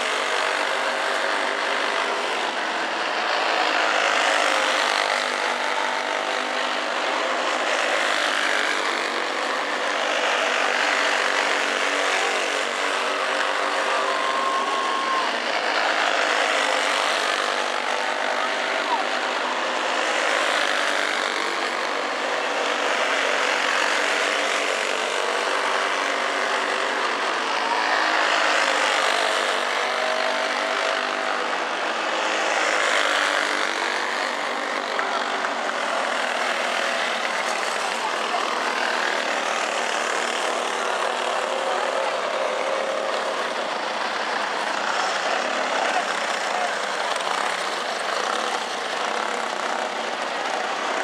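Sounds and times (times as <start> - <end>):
go-kart engines revving: 0.0 - 51.0.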